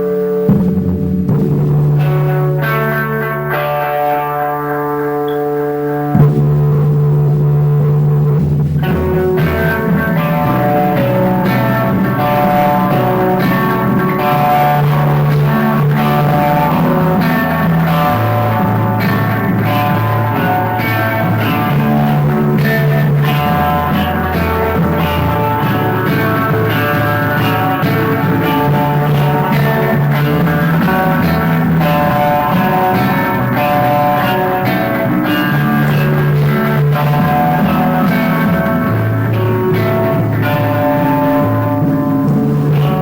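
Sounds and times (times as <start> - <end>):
bass line: 0.0 - 3.9, 5.3 - 43.0
guitar-led rock music: 0.0 - 43.0.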